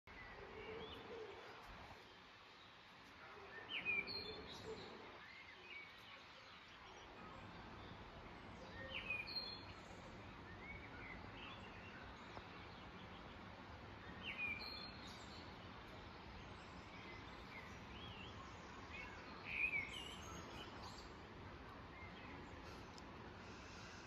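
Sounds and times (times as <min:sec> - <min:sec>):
faint steady hiss: 0:00.1 - 0:24.0
songbirds chirping and whistling: 0:00.1 - 0:24.0.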